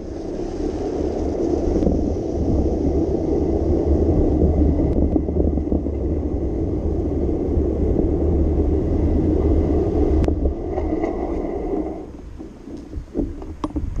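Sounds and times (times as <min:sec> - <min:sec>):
road rumble: 0:00.0 - 0:14.0
wind buffeting microphone: 0:00.0 - 0:14.0.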